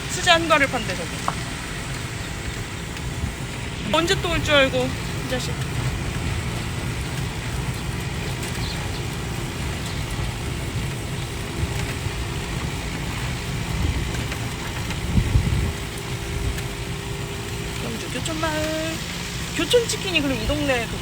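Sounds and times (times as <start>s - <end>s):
electric cart rumble and road noise: 0.0s - 21.0s.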